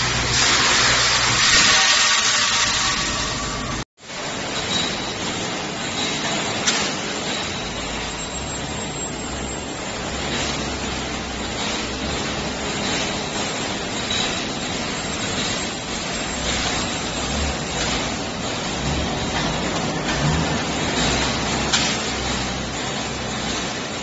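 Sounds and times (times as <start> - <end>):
machinery din with low hum: 3.0 - 24.0.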